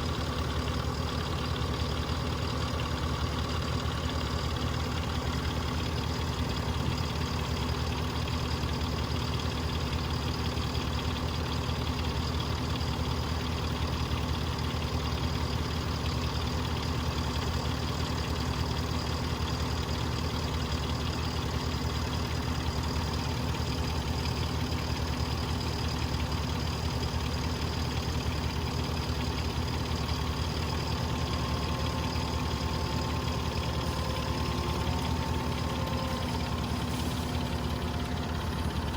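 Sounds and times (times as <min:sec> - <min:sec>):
farm machinery engine idling: 0:00.0 - 0:38.9.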